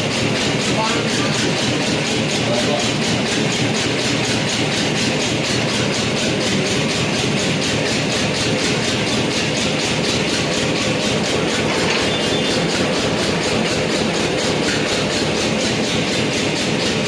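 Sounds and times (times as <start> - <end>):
machine running with pulsing beat: 0.0 - 17.0.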